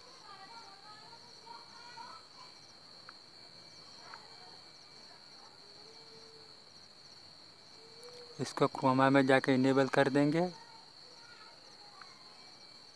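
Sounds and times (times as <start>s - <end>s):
crickets trilling: 0.0s - 12.9s.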